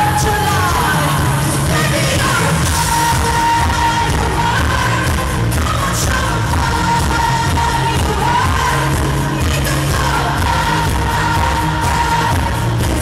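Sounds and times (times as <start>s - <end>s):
band playing pop music: 0.0s - 13.0s
steady heavy beat: 0.0s - 13.0s
woman singing into a microphone: 0.0s - 13.0s.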